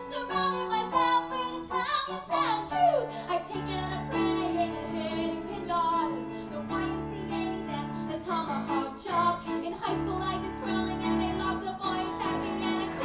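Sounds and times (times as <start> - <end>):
cello chords: 0.0 - 13.0
piano chords: 0.0 - 13.0
woman singing: 0.0 - 13.0.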